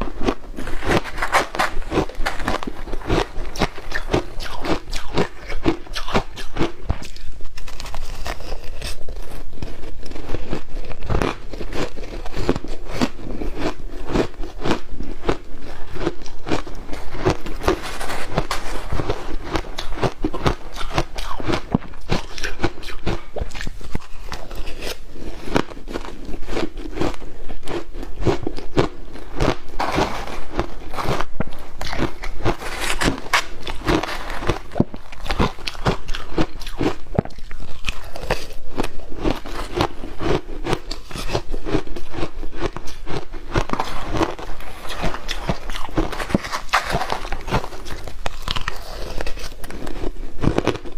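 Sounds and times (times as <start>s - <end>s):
crunching ice cubes: 0.0s - 50.9s
chewing: 0.1s - 50.9s.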